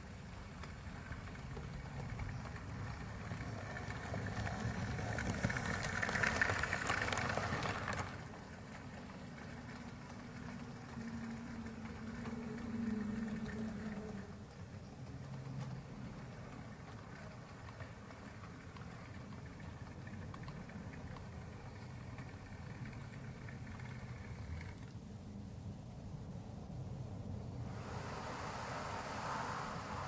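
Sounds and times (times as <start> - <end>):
low motor hum: 0.0 - 25.0, 27.3 - 30.0
model train wheels rattling on rails: 0.0 - 25.0.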